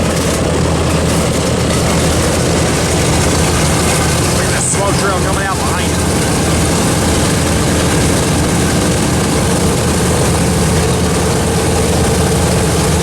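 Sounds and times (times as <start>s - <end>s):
radial piston engines running: 0.0s - 13.0s.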